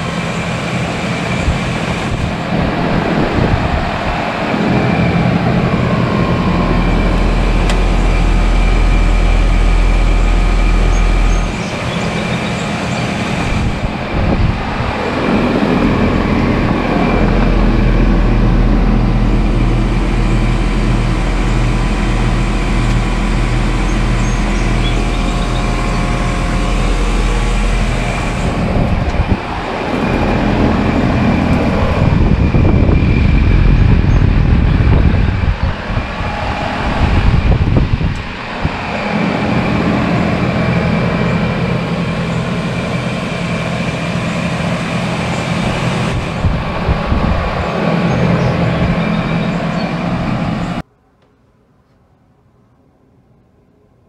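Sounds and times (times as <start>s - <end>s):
compressor humming: 0.0s - 50.9s
condenser fan rushing: 0.0s - 50.9s.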